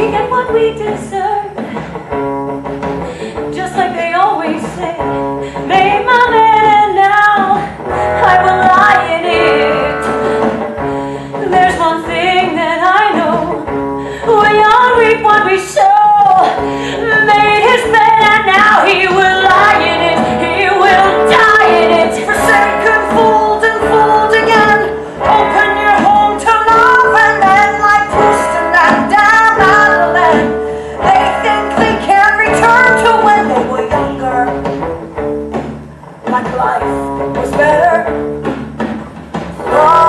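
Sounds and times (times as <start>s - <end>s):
woman singing: 0.0s - 1.7s, 3.4s - 34.8s, 36.2s - 38.2s, 39.6s - 40.0s
live band playing: 0.0s - 40.0s.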